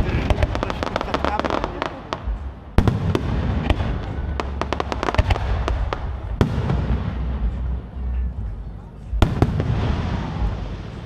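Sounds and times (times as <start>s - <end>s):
fireworks bangs: 0.0s - 8.1s, 9.1s - 11.0s
low rumble: 0.0s - 11.0s.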